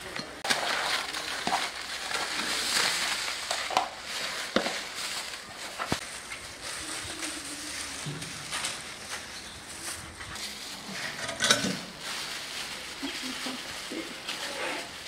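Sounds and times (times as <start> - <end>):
plastic bags crinkling: 0.3 - 15.0.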